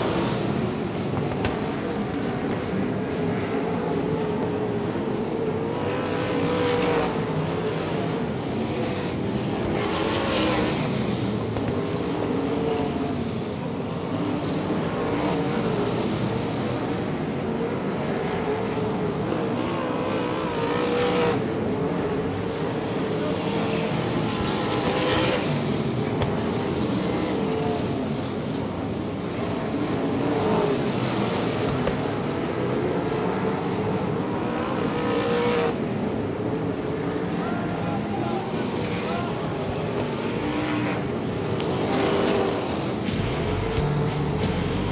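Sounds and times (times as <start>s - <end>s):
cars passing close by: 0.0s - 44.9s
racing car engines: 0.0s - 44.9s.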